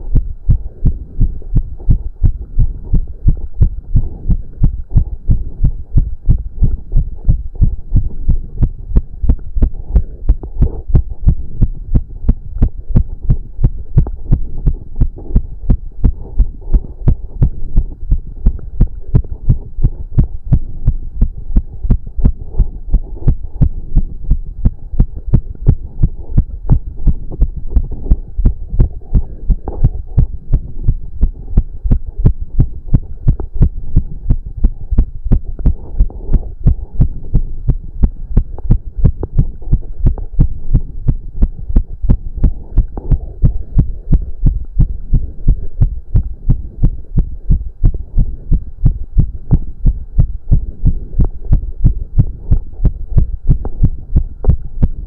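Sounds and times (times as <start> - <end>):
faint steady hum: 0.0 - 55.0
fast heartbeat thumps: 0.0 - 55.0.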